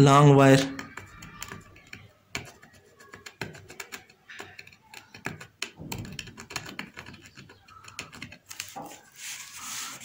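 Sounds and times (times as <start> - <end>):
tweezer tip scratching metal strip: 0.7 - 10.0.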